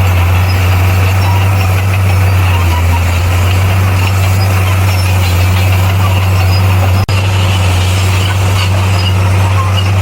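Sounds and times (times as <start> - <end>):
bulldozer diesel engine drone: 0.0 - 10.0.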